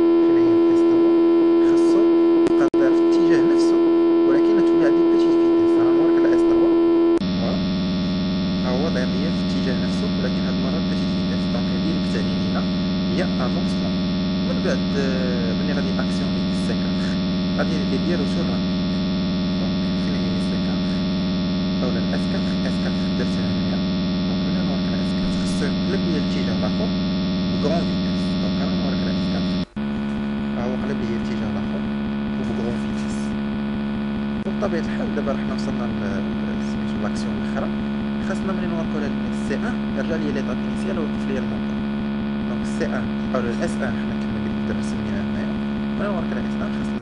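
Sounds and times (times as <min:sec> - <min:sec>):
electric motor hum: 0:00.0 - 0:47.0.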